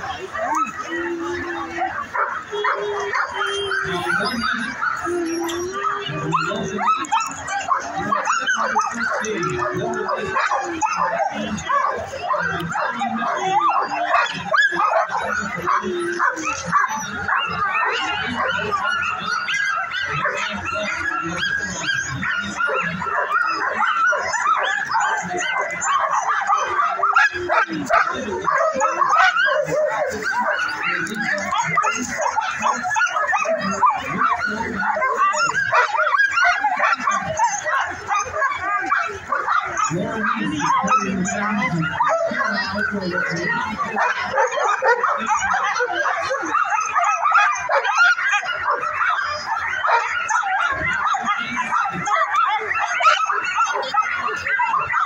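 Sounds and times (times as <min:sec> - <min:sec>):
sled dogs yipping and barking: 0:00.0 - 0:55.0.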